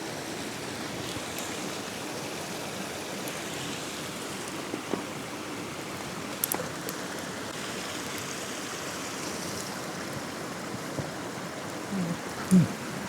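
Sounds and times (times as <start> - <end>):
water rushing: 0.2 - 13.0.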